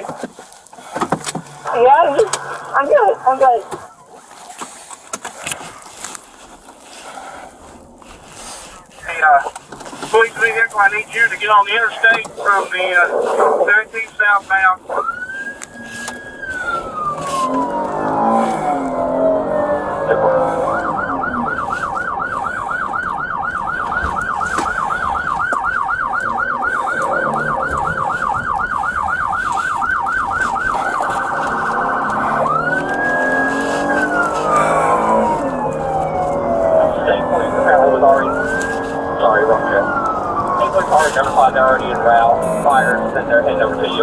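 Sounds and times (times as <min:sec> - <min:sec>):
police siren wailing and yelping: 0:01.4 - 0:04.5, 0:07.5 - 0:44.0.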